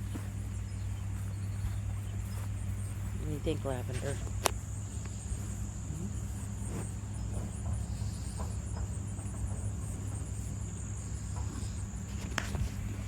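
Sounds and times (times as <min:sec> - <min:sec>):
continuous low rumble: 0:00.0 - 0:13.0
crickets trilling: 0:00.0 - 0:13.0.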